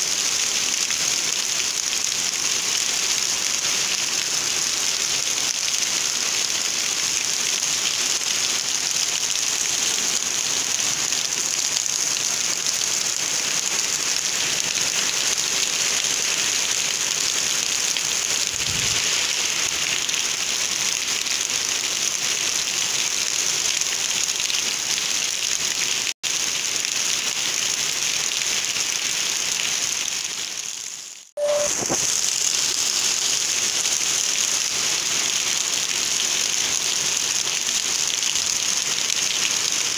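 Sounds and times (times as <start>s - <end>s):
heavy rain pouring: 0.2s - 30.8s, 31.4s - 39.9s.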